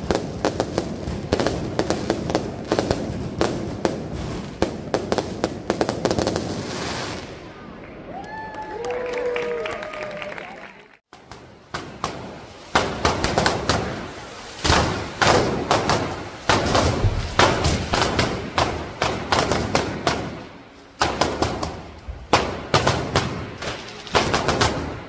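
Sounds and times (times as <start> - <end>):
fireworks exploding: 0.0 - 8.1, 11.1 - 25.0.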